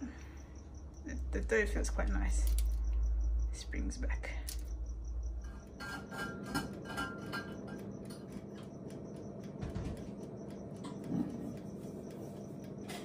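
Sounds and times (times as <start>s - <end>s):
oven humming: 0.0s - 13.0s.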